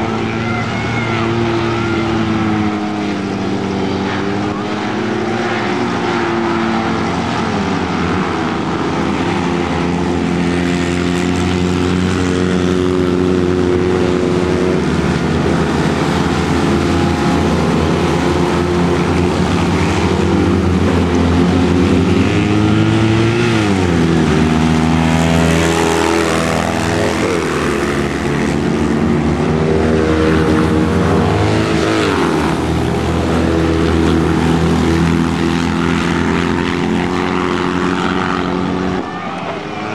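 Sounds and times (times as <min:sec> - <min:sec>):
small race car engines revving: 0:00.0 - 0:39.9.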